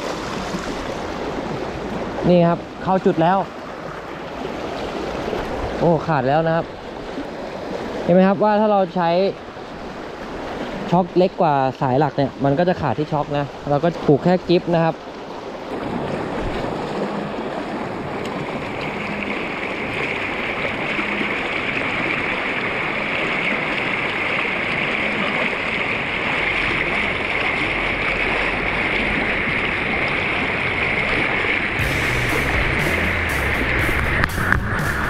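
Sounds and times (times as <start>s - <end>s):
river water rushing over rocks: 0.0s - 35.0s.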